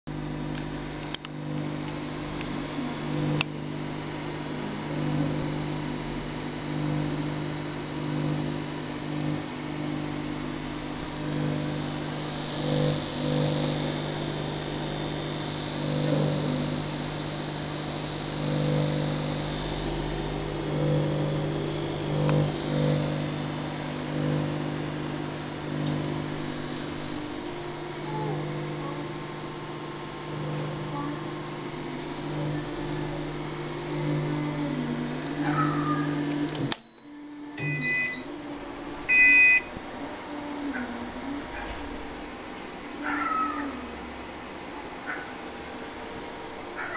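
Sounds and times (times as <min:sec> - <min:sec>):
inverter electrical hum: 0:00.0 - 0:46.9.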